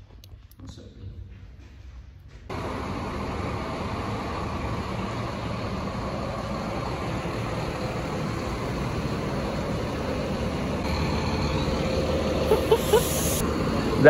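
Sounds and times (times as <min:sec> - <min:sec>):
bus engines idling: 0:02.5 - 0:14.0.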